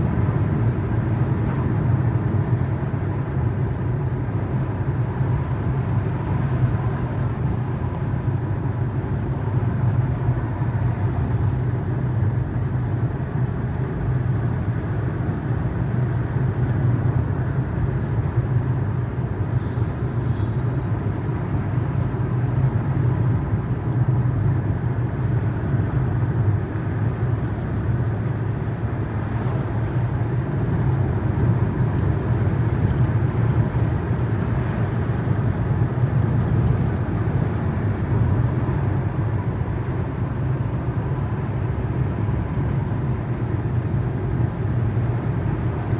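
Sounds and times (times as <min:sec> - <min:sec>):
car driving at steady speed: 0:00.0 - 0:45.9.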